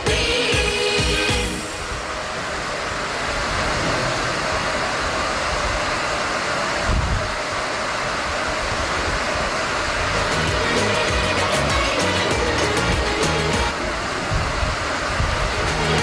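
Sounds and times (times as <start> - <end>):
tunnel boring machine grinding: 0.0 - 16.0
water churning: 0.0 - 16.0.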